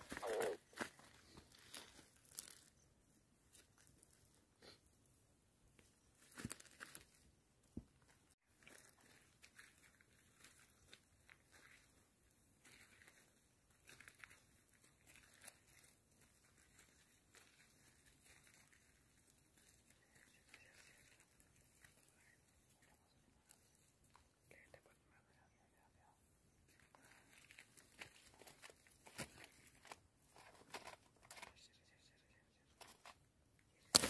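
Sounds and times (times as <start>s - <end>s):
faint rustles and crunches: 0.0s - 4.9s, 5.8s - 24.7s, 25.8s - 31.6s, 32.7s - 33.2s.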